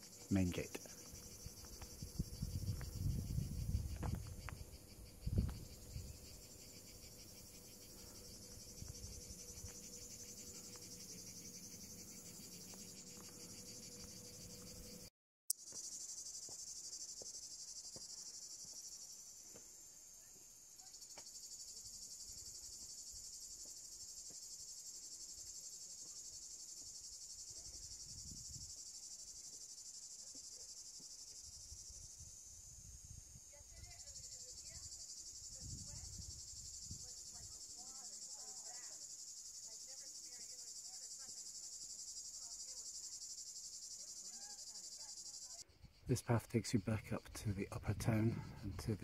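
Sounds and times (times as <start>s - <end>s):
cicadas chirring: 0.0s - 20.2s, 20.8s - 49.0s.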